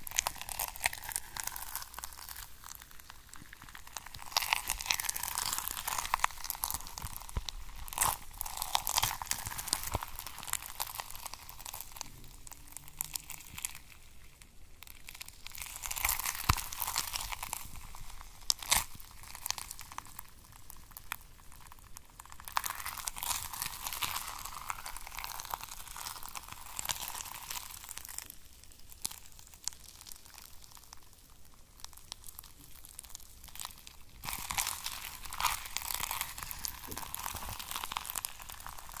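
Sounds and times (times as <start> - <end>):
gel squishing on plastic: 0.0 - 39.0.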